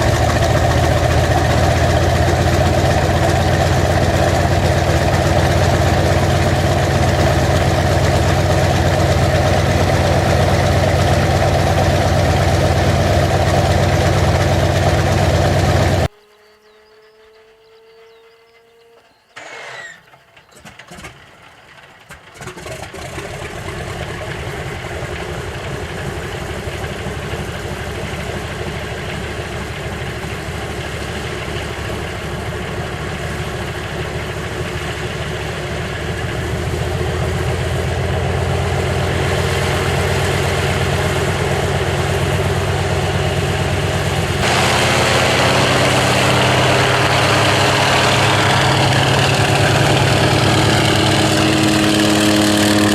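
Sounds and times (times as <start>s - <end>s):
radial engine starting and running: 0.0s - 52.9s.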